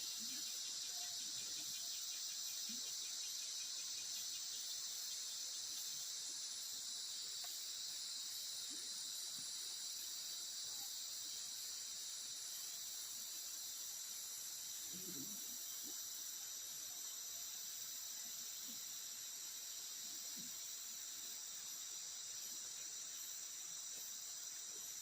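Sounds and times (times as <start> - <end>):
insects chirping chorus: 0.0 - 25.0.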